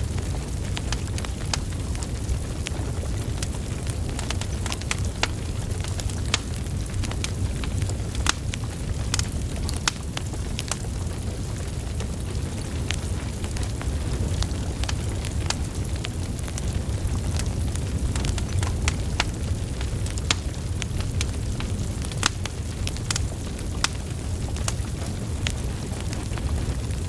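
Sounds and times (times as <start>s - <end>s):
fire flames rumbling: 0.0s - 27.0s
logs crackling and popping: 0.0s - 27.0s.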